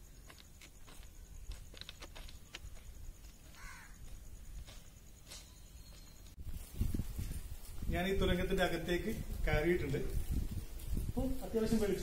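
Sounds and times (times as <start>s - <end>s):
footsteps on track ballast: 0.0s - 11.2s.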